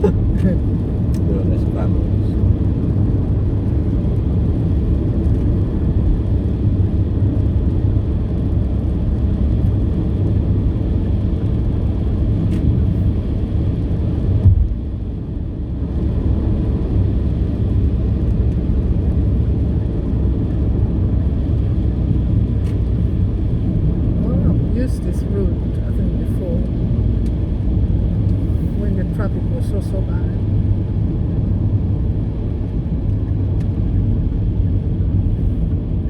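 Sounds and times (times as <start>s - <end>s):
car interior rumble: 0.0s - 36.0s.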